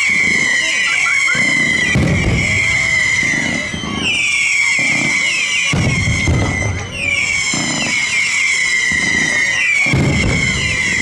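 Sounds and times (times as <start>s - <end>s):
fireworks booming: 0.0s - 11.0s
high whistling tone: 0.0s - 11.0s.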